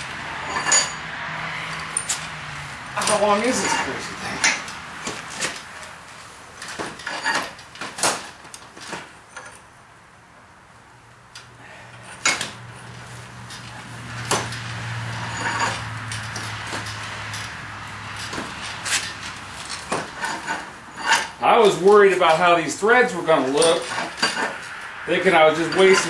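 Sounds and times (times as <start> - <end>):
metal vise clunking and scraping: 0.0 - 9.7, 11.4 - 26.0.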